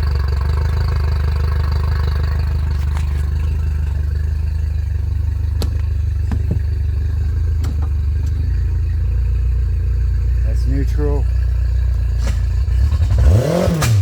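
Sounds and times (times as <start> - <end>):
outboard motor idling: 0.0 - 13.6.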